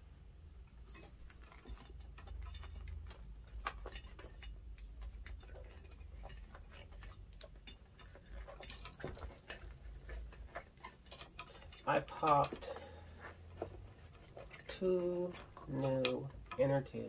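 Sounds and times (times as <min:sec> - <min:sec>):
low steady hum: 0:00.0 - 0:17.0
hands handling rubber inner tube: 0:00.7 - 0:17.0.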